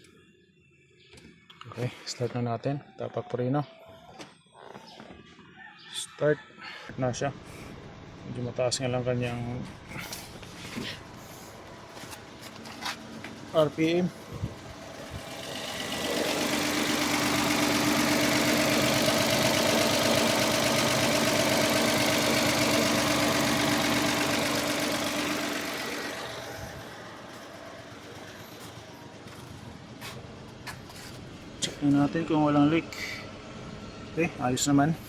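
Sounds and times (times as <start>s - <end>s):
car engine idling high: 6.9s - 35.0s.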